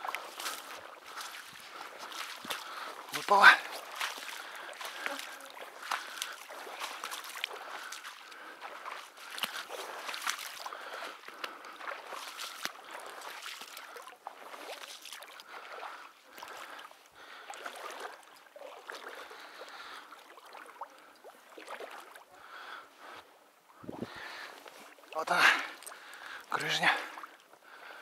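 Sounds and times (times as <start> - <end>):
person wading through water: 0.0 - 28.0.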